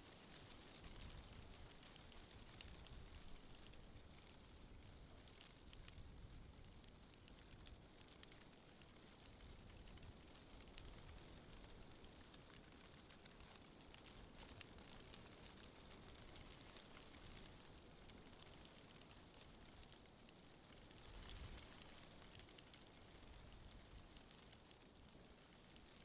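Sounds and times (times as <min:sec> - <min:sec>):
wind rustling tree leaves: 0:00.0 - 0:26.0.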